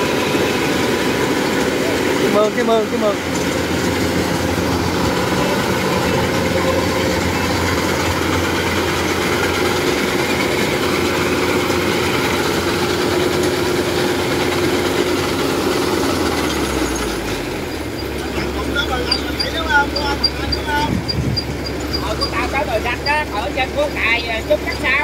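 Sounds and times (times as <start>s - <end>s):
combine harvester engine droning: 0.0s - 25.0s.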